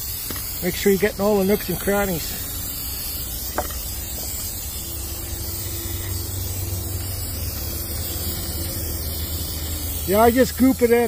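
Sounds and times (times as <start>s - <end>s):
aerosol can spraying hiss: 0.0s - 11.0s.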